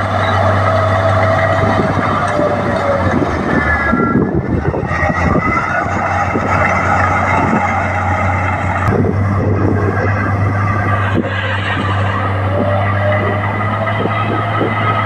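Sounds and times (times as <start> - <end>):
bulldozer diesel engine running: 0.0 - 15.0
high wavering squeals: 0.0 - 15.0
track clatter: 0.0 - 15.0.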